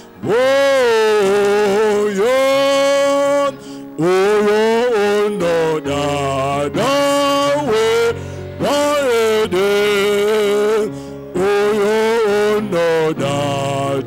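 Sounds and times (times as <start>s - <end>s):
man singing a hymn: 0.0s - 14.0s.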